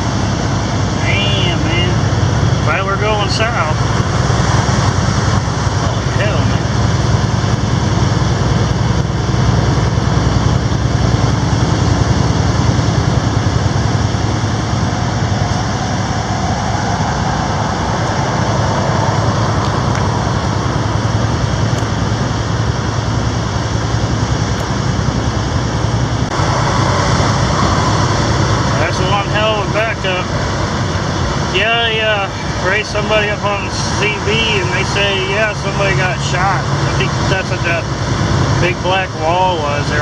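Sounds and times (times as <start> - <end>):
truck engine drone: 0.0 - 40.0.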